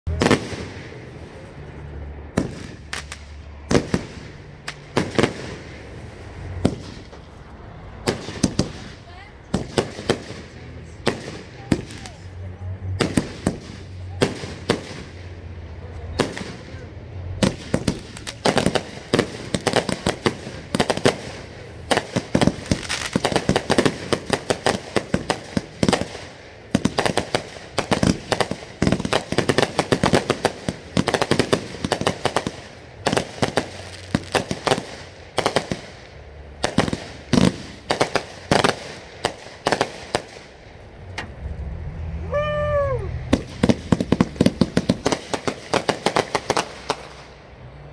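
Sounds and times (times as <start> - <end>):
fireworks bangs and crackles: 0.1 - 40.8, 42.8 - 47.6.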